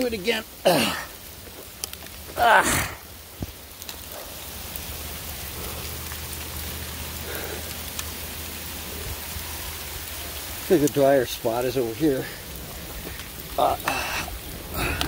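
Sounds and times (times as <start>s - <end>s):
hailstones ticking near microphone: 0.0s - 15.0s
rain and hail pouring: 0.0s - 15.0s.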